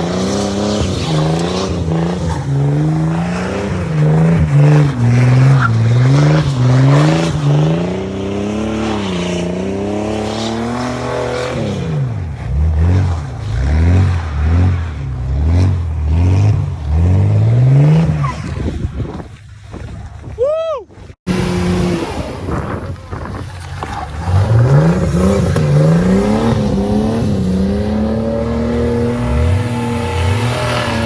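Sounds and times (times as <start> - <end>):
car engine revving: 0.0 - 18.3, 21.3 - 31.0.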